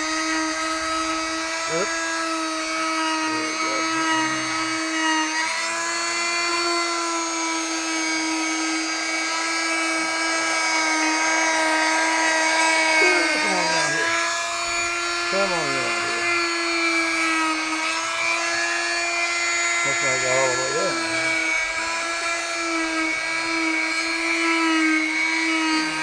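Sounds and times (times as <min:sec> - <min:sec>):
oscillating multi-tool whining: 0:00.0 - 0:26.0.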